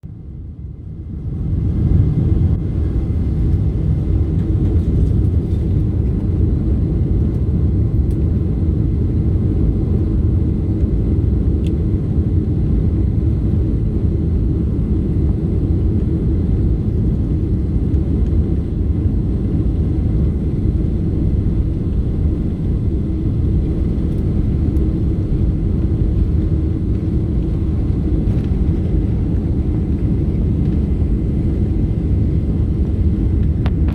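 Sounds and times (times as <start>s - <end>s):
airplane cabin rumble: 0.0s - 33.9s.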